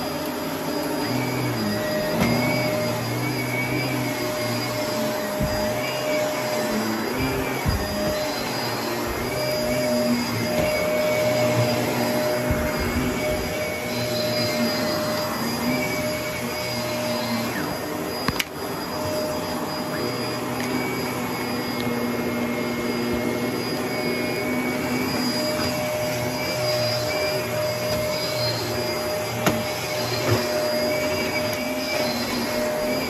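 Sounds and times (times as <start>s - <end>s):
vacuum cleaner running on carpet: 0.0s - 33.0s.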